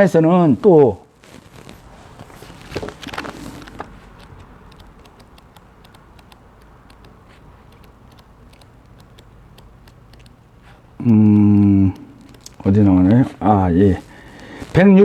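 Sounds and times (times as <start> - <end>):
faint clicks: 1.3 - 14.8.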